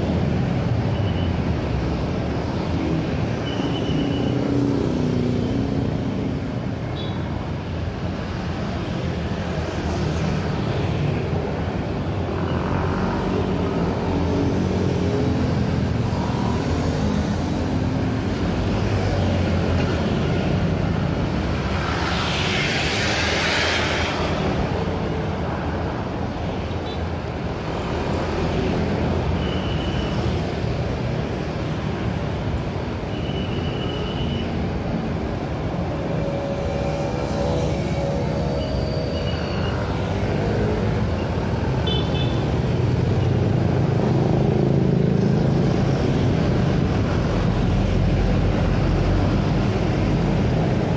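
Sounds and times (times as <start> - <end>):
traffic rumble: 0.0 - 50.9.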